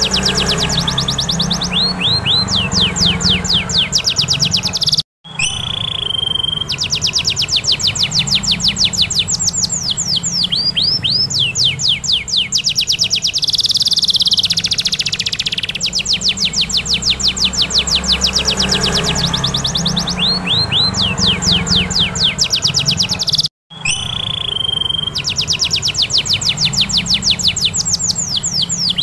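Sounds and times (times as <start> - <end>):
canary singing trills: 0.0 - 29.0.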